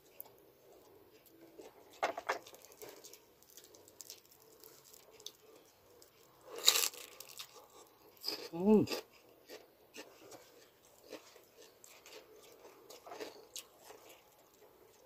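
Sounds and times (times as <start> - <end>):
pork rind crackling: 1.1 - 15.0
loud crunch of a bite: 2.3 - 5.4, 6.0 - 15.0.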